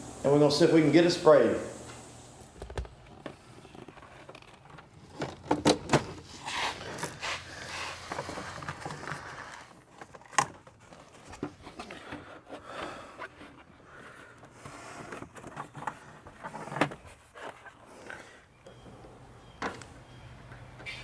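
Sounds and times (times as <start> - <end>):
scraping and rustling: 2.4 - 21.0.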